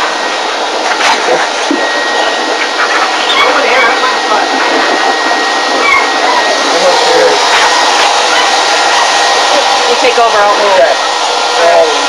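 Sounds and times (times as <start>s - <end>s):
blower motor rushing air: 0.0s - 12.0s.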